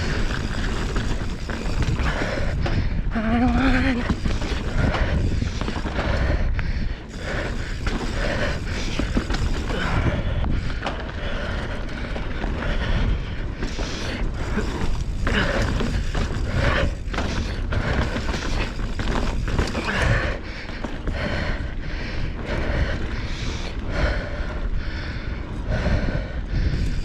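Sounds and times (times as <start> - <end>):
bike chain rattling and clicking: 0.0 - 27.0
bike tyres on dirt: 0.0 - 27.0.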